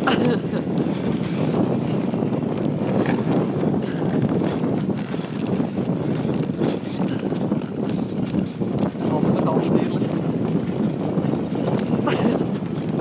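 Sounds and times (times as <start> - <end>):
sled gliding over snow: 0.0 - 13.0
wind buffeting microphone: 0.0 - 13.0.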